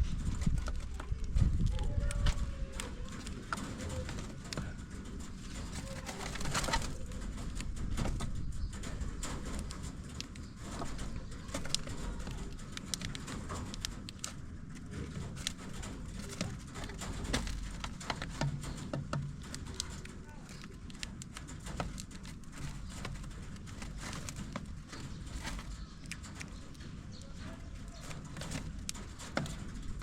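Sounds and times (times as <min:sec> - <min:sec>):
domestic birds calling softly: 0:00.0 - 0:30.0
sharp clicks and taps: 0:00.3 - 0:30.0.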